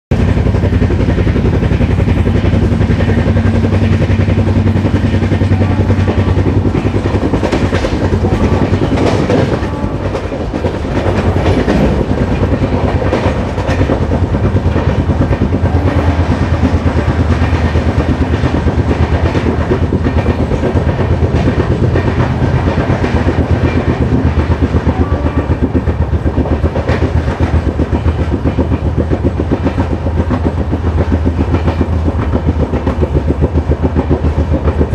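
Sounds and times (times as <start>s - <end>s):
clickety-clack over rail joints: 0.1s - 34.9s
train wheels rumbling on rails: 0.1s - 34.9s.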